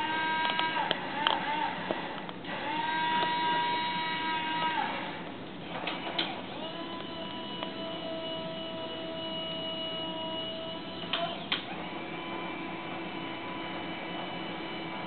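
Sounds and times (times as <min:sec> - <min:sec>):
servo motors whining: 0:00.0 - 0:15.0.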